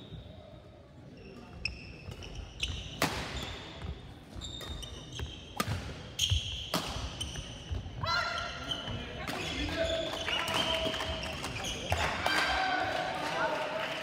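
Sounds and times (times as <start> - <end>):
shoes squeaking on court floor: 0.0 - 12.2.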